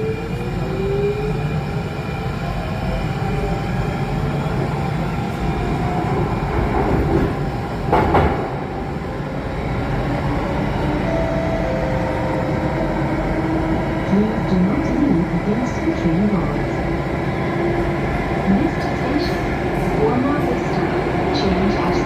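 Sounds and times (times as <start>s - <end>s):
train wheels rumbling on rail: 0.0s - 11.2s, 12.0s - 22.0s.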